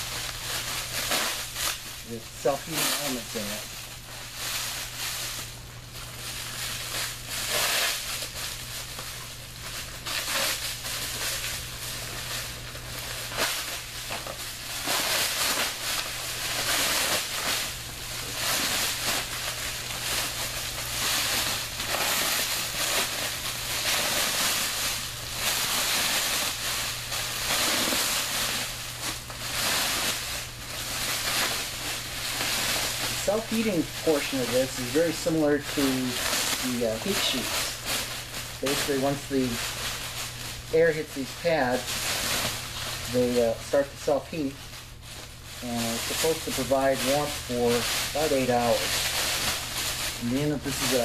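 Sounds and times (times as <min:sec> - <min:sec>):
plastic blanket crinkling: 0:00.0 - 0:51.0.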